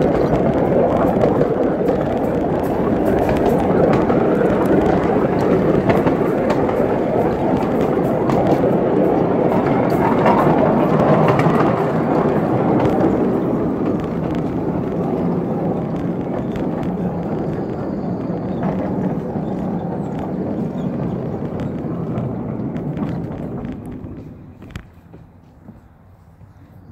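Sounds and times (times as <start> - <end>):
faint track clicks: 0.0 - 26.8
train wheels rumbling on rail: 0.0 - 26.9.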